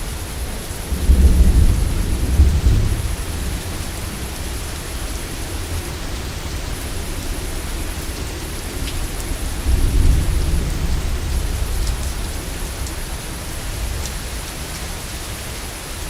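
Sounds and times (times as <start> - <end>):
thunder rumble: 0.0 - 15.5
steady rain: 0.0 - 16.0.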